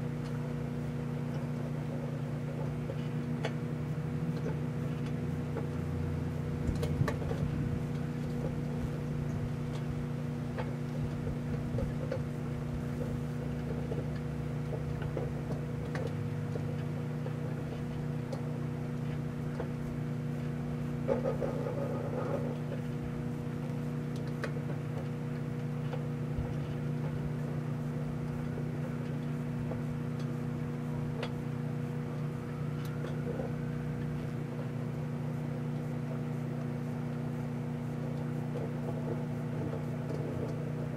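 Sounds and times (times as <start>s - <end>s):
microwave oven humming: 0.0s - 40.9s.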